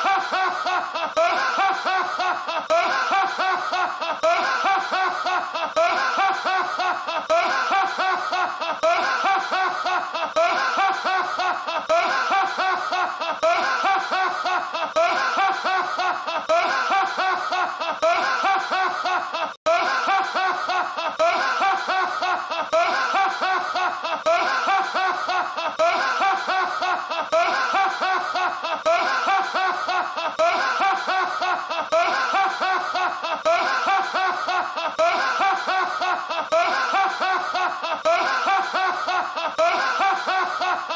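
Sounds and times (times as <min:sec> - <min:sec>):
man belly laughing: 0:00.0 - 0:40.9.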